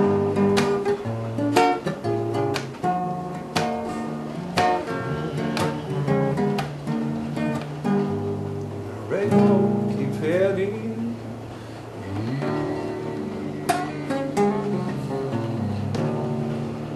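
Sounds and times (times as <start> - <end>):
strummed acoustic guitar chords: 0.0 - 16.9.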